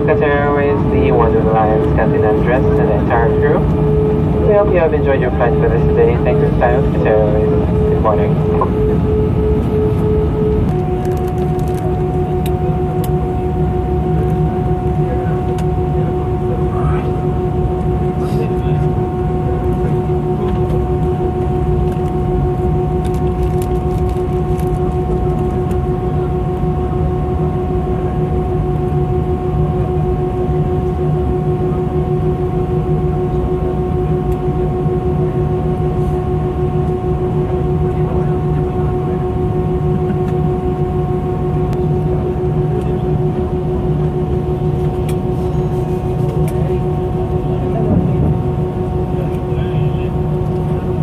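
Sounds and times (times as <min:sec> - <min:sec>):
airliner cabin rumble: 0:00.0 - 0:51.0
jet engine whine: 0:00.0 - 0:51.0.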